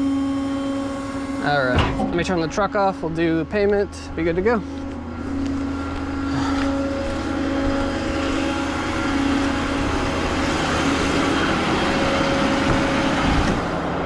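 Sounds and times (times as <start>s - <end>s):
road and tyre noise: 0.0s - 14.0s
truck engine droning: 0.0s - 14.0s.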